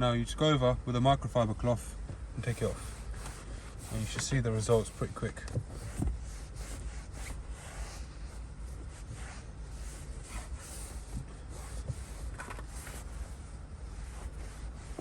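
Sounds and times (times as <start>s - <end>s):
low steady rumble: 0.0s - 15.0s
cloth rubbing on leather seat: 1.7s - 15.0s.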